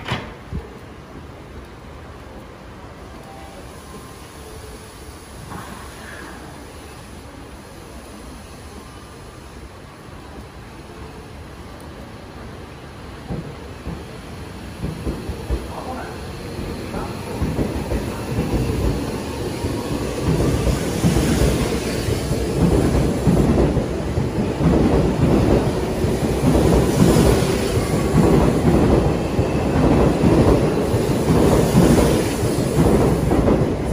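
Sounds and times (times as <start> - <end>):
electric train rumble: 0.0 - 33.9.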